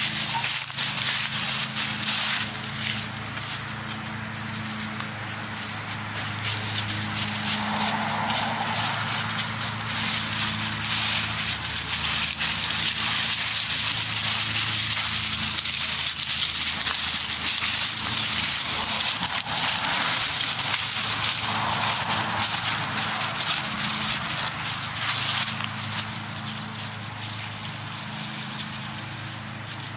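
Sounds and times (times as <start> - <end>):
dry leaves crunching underfoot: 0.0 - 29.9.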